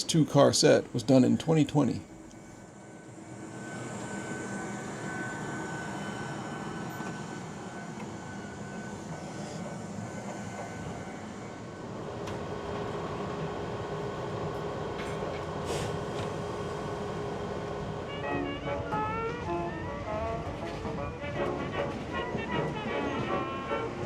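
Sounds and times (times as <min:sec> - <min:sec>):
electric train rumble: 0:00.0 - 0:24.0.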